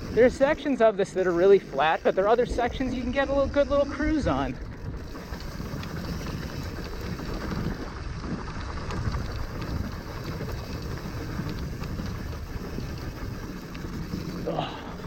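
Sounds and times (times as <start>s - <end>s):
bike clicks and rattles: 0.0s - 15.0s
bike tyres rolling on dirt: 0.0s - 15.0s
wind buffeting microphone: 0.0s - 15.0s.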